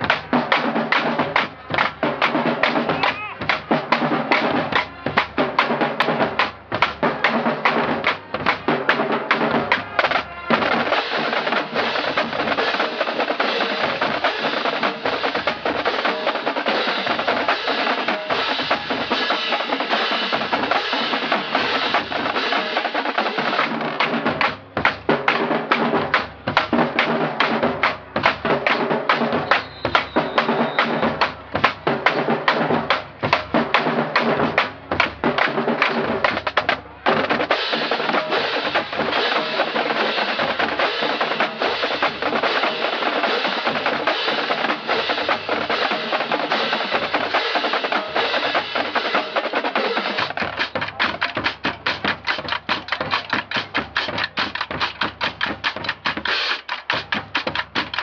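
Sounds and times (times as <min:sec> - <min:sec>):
snare drums rattling: 0:00.0 - 0:58.0.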